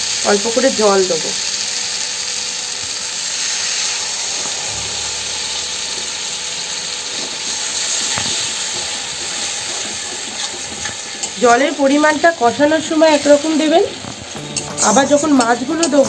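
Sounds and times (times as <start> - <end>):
masala sizzling in oil: 0.0 - 16.0.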